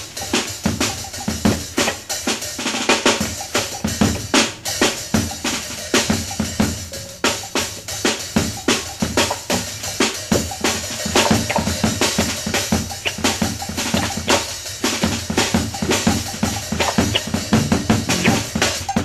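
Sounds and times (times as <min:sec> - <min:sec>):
jazz drum kit playing: 0:00.0 - 0:19.0.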